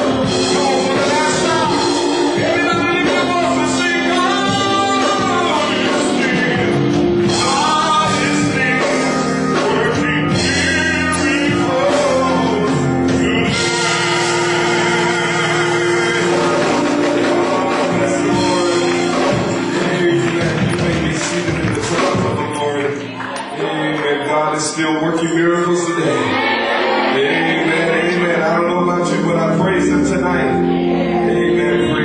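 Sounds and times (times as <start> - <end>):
gospel singer with live band: 0.0 - 32.0.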